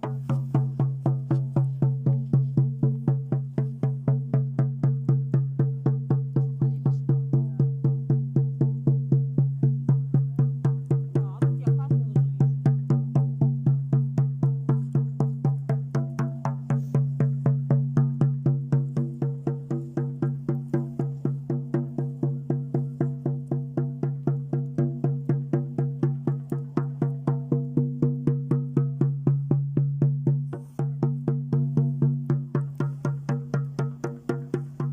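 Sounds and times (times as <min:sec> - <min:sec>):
fast drumbeat: 0:00.0 - 0:34.9.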